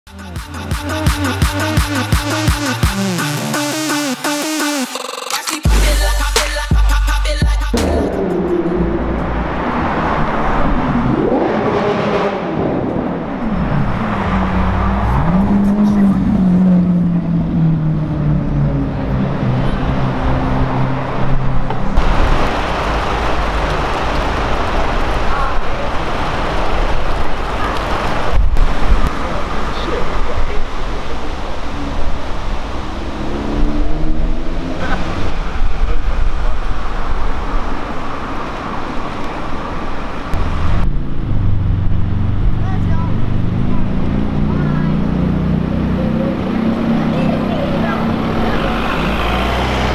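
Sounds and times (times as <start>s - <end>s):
street traffic noise: 0.1s - 49.9s
car engine revving: 7.2s - 49.9s.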